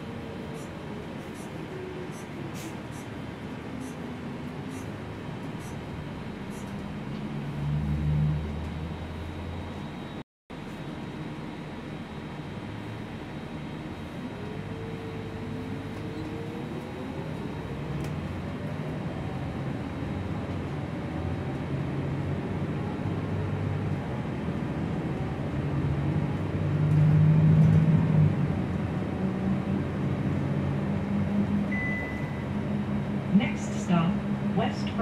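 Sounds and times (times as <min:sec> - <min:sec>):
bus accelerating with whine: 0:00.0 - 0:35.0.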